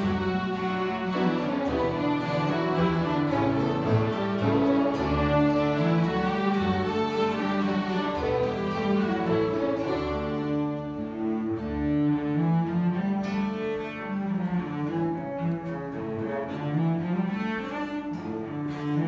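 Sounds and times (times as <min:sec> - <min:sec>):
acoustic guitar: 0:00.0 - 0:19.0
cello: 0:00.0 - 0:19.0
fiddle ensemble playing: 0:00.0 - 0:19.0.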